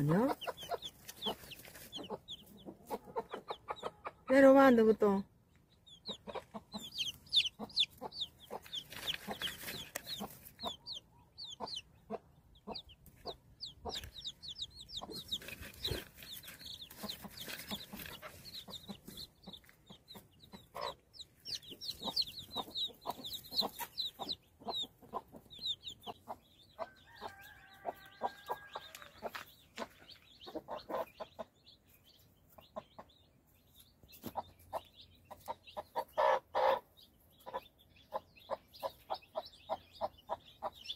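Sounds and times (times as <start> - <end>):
chicks peeping: 0.0 - 40.9
hen clucking: 0.0 - 40.9.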